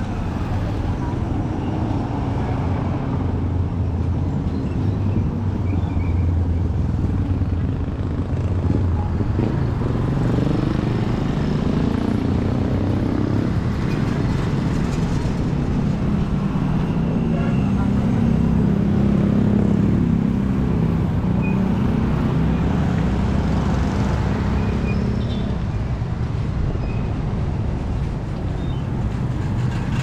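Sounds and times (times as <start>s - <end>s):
engine rumbling: 0.0s - 30.0s.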